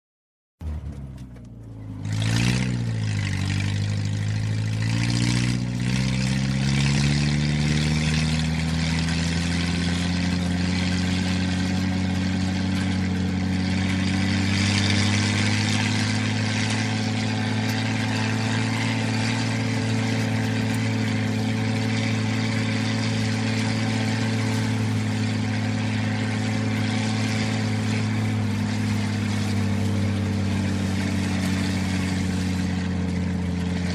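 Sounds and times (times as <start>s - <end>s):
car engine revving and driving: 0.6s - 33.9s.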